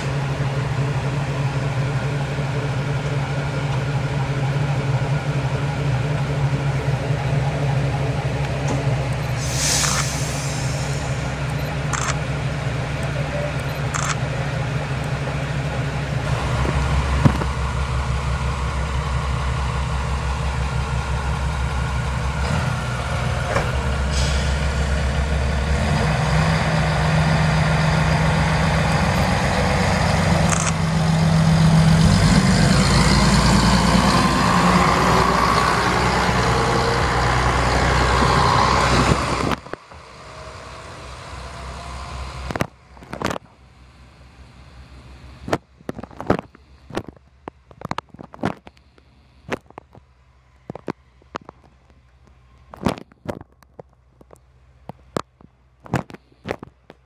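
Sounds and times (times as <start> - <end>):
railcar diesel engine humming: 0.0 - 57.0.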